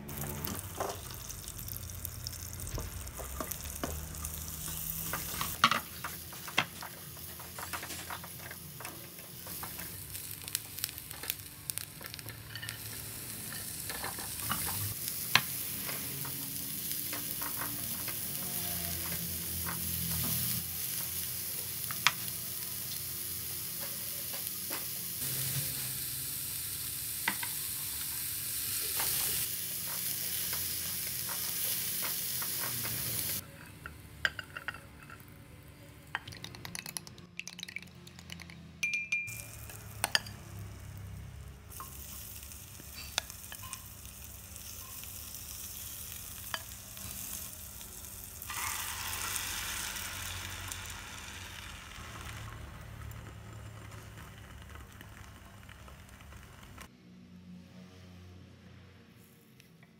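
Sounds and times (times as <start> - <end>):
vegetables sizzling in a frying pan: 0.1 - 33.4, 39.4 - 56.9.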